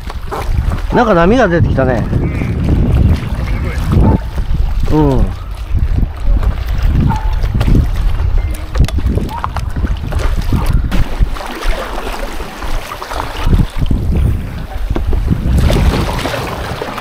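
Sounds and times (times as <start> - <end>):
waves lapping against boat: 0.0 - 17.0
wind rumbling on microphone: 0.0 - 17.0.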